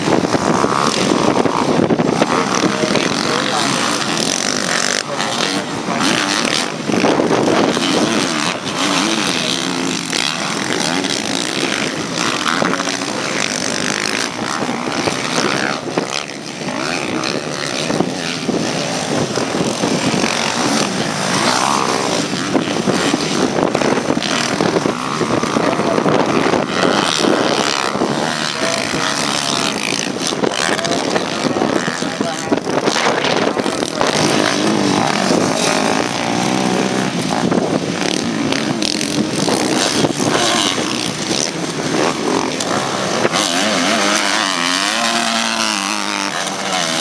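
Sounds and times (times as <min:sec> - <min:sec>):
motocross bikes revving: 0:00.0 - 0:47.0.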